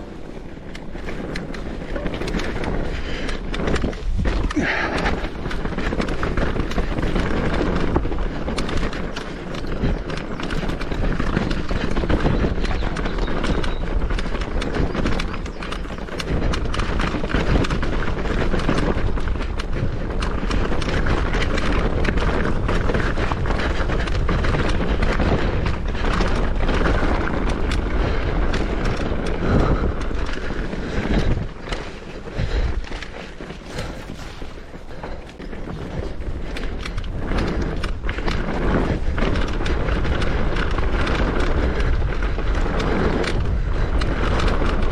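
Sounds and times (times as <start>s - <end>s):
bike tyres clattering over rock: 0.0s - 44.9s.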